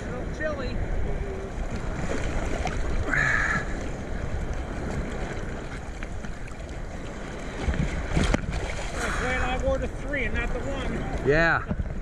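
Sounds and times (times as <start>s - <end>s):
sea water sloshing and splashing: 0.0s - 12.0s
wind buffeting microphone: 0.0s - 12.0s.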